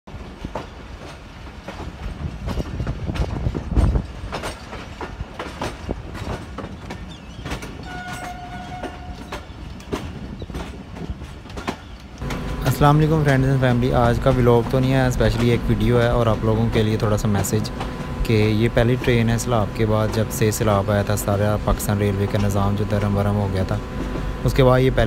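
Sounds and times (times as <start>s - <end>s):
train carriages rumbling on track: 0.1s - 25.0s
wheels clacking over rails: 0.1s - 25.0s.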